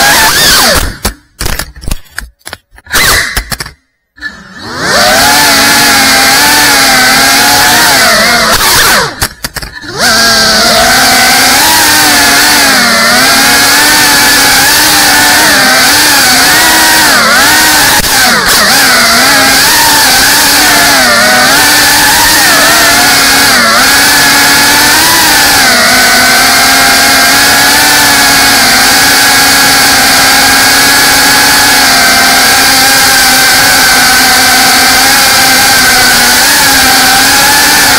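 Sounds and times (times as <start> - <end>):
drone motors whining: 0.0 - 1.9, 2.7 - 37.9.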